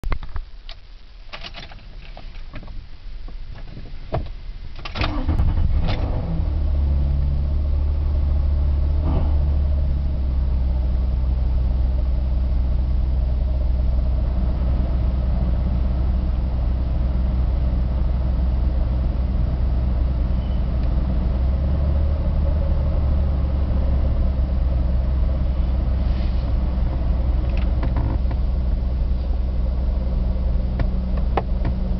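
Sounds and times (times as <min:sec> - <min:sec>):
car engine cranking and idling: 0:01.3 - 0:31.9.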